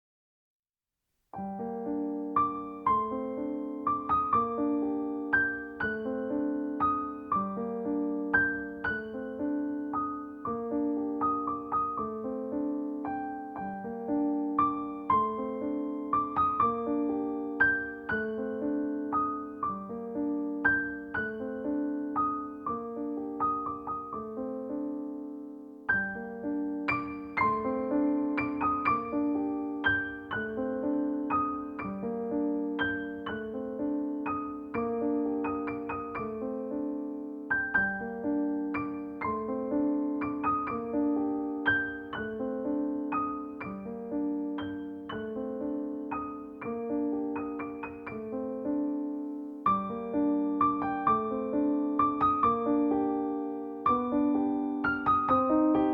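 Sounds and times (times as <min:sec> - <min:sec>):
gentle piano music: 0:01.3 - 0:55.9.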